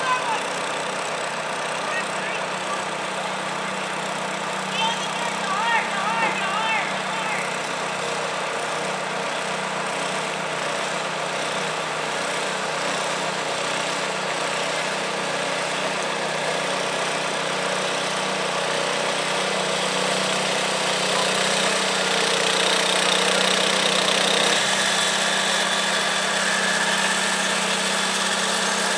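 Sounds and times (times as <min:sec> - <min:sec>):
small tractor engine running: 0:00.0 - 0:28.9.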